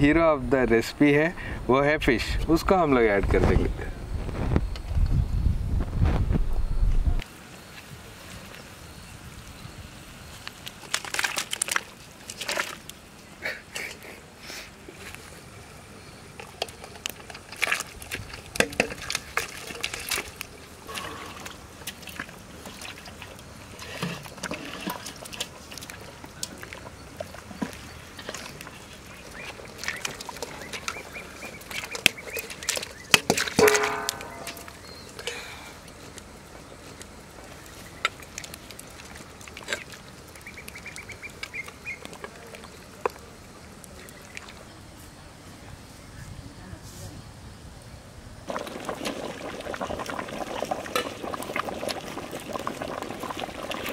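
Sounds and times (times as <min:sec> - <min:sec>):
steady low hiss: 0:00.0 - 0:53.9.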